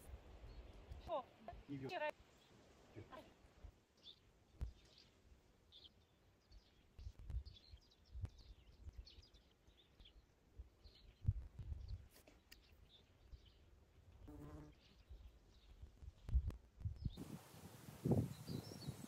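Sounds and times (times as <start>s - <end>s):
small birds chirping: 0.4s - 19.0s.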